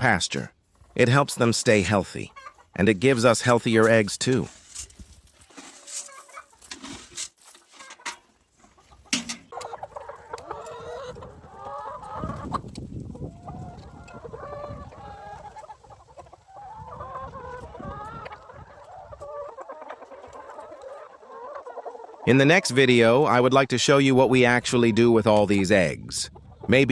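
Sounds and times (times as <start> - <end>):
hens clucking: 0.0 - 26.9.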